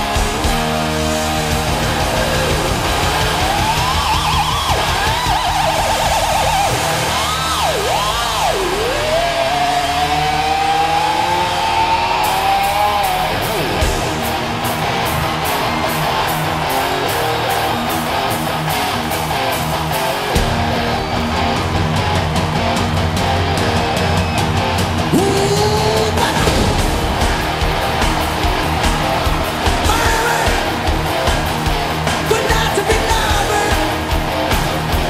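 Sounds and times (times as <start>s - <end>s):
guitar sliding up in pitch: 0.0s - 35.0s
hard rock band playing: 0.0s - 35.0s.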